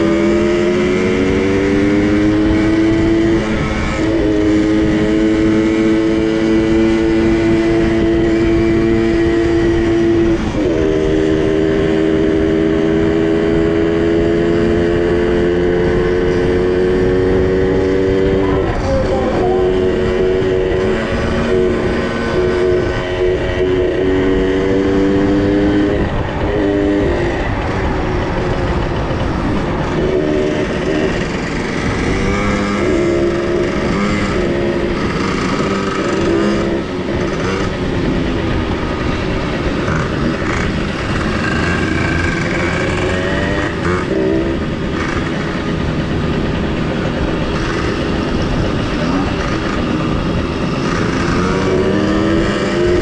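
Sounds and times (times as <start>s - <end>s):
small two-stroke engines revving: 0.0s - 53.0s
steady rushing noise: 0.0s - 53.0s.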